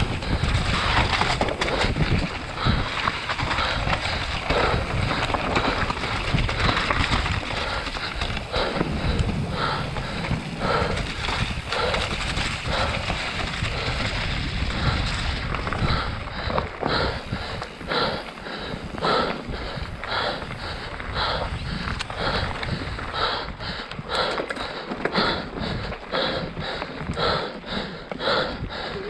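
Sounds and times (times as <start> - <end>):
bike tyre and frame noise: 0.0 - 29.0
wind noise on microphone: 0.0 - 29.0.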